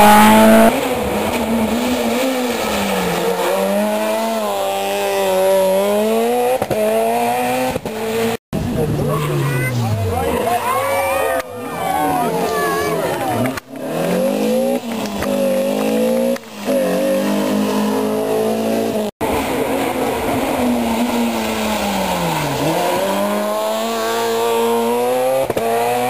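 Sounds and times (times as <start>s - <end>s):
rally car engine revving: 0.0s - 26.0s
rally car engine slowing and accelerating: 0.0s - 26.0s.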